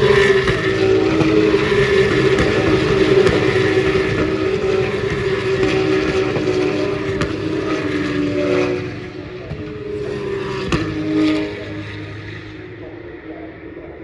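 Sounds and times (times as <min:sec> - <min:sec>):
racing cars passing at speed: 0:00.0 - 0:14.0.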